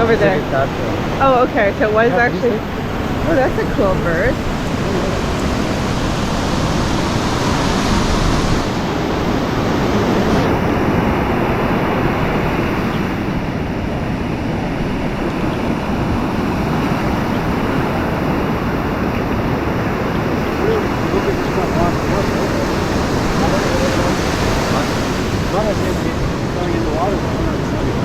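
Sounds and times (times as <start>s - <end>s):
waves breaking on beach: 0.0s - 28.0s
wind on microphone: 0.0s - 28.0s.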